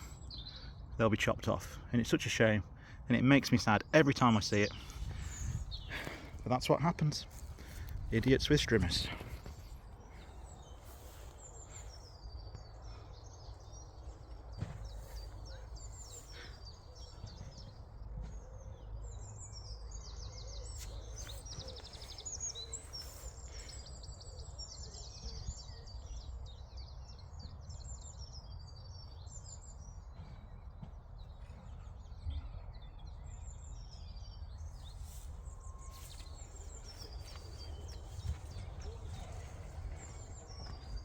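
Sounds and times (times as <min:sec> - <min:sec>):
songbirds chirping and trilling: 0:00.0 - 0:41.0.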